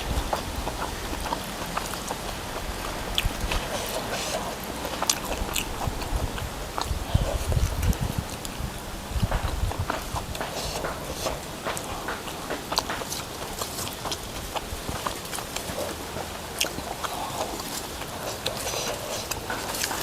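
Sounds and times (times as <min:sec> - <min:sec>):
chewing with wet mouth smacks: 0:00.0 - 0:20.0.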